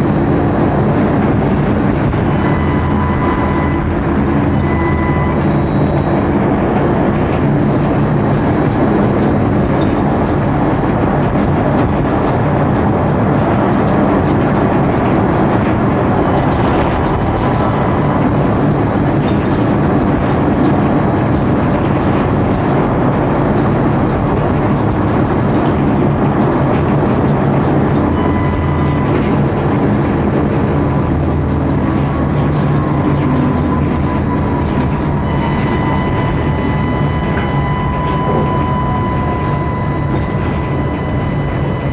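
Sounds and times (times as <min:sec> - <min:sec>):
tram wheels rumbling on rails: 0:00.0 - 0:41.9.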